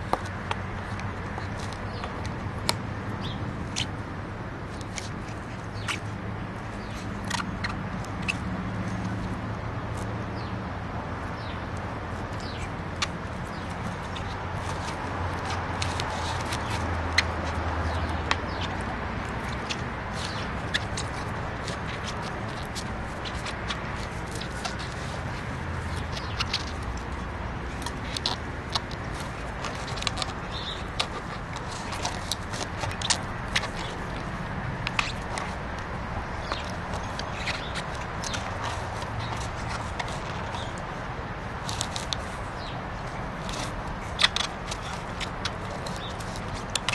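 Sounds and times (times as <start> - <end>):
puppy chewing rubber: 0.0 - 10.5, 11.2 - 46.9.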